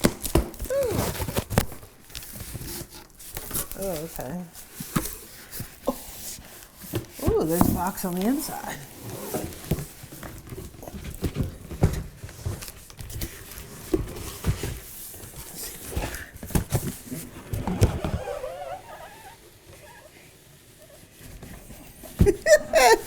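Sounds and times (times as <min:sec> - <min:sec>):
cardboard packaging rustling: 0:00.0 - 0:23.0.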